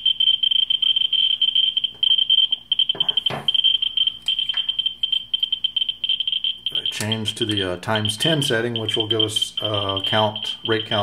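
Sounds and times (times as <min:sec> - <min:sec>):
radiation meter rapid clicking: 0:00.0 - 0:11.0.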